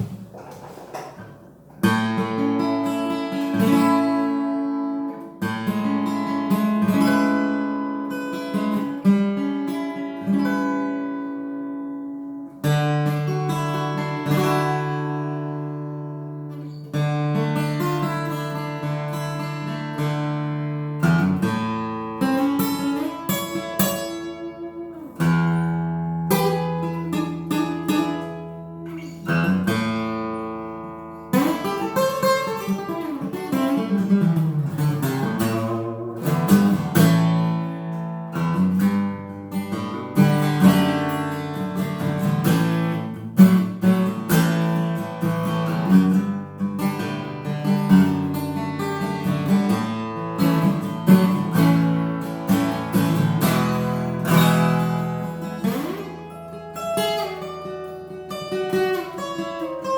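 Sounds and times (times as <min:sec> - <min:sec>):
acoustic guitar plucked notes: 0:00.0 - 0:59.9.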